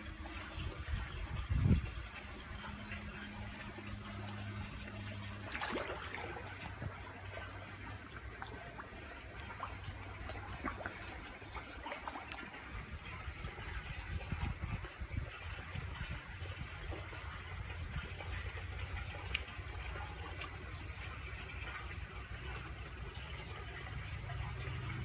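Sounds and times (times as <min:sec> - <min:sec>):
low hum: 0:00.0 - 0:25.0
water trickling: 0:00.0 - 0:25.0.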